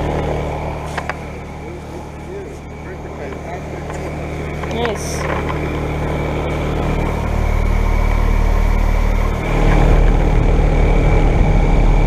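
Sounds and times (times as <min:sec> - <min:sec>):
heat pump machine hum: 0:00.0 - 0:12.0
heavy low rumble: 0:00.0 - 0:12.0.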